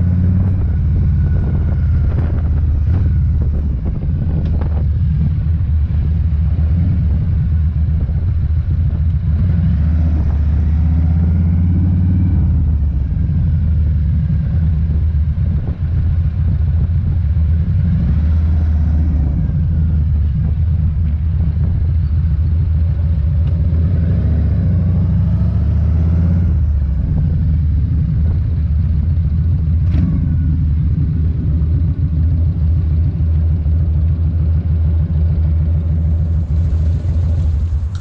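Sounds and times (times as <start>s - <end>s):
motorcycle engine rumbling: 0.0s - 38.0s.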